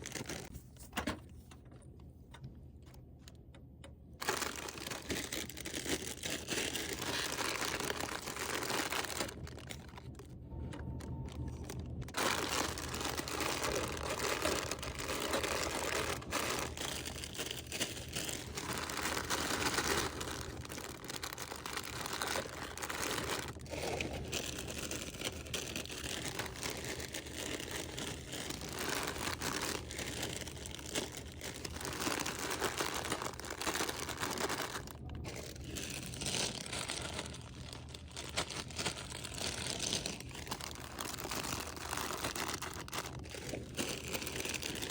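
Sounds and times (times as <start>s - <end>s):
plastic packaging crinkling: 0.0s - 0.6s, 4.2s - 44.9s.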